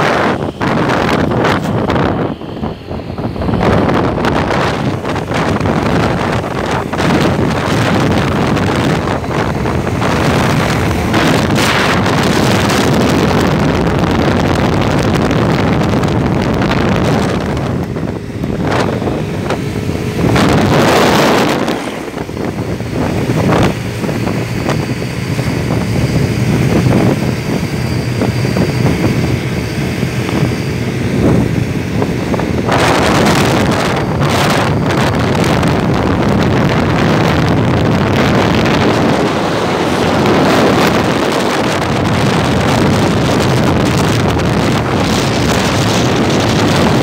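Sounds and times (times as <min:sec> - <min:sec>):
vehicle running noise: 0:00.0 - 0:47.0
wind buffeting microphone: 0:00.0 - 0:47.0.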